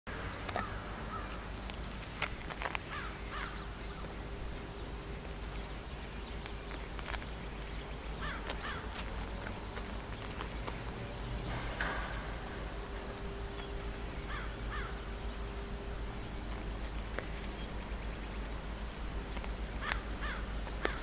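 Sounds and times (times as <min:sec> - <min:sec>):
low rumble: 0:00.1 - 0:20.9
birds chirping and calling: 0:00.5 - 0:21.0.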